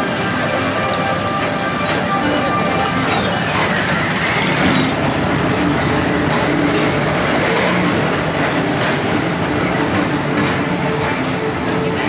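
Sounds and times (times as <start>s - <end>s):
ride car rolling rumble: 0.0s - 12.0s.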